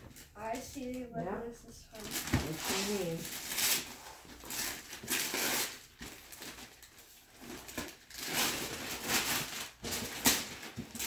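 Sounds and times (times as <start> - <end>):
wrapping paper tearing and crumpling: 1.9 - 11.0.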